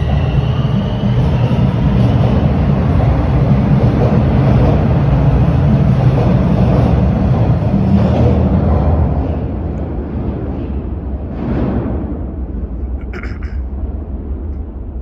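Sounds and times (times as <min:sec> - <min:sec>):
subway train rumbling on track: 0:00.0 - 0:15.0.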